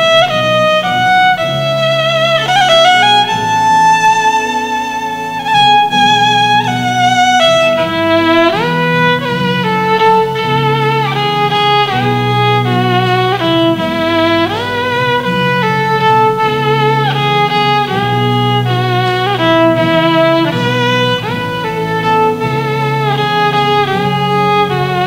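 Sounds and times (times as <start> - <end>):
low sustained accompaniment: 0.0 - 25.0
violin playing slow melody: 0.0 - 25.0.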